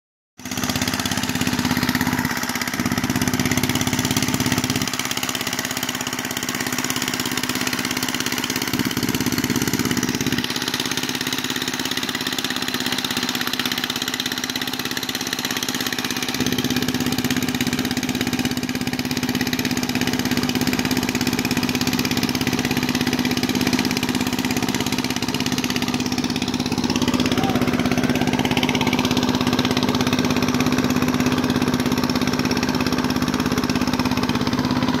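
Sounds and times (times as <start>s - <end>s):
small engine running steadily: 0.4s - 35.0s.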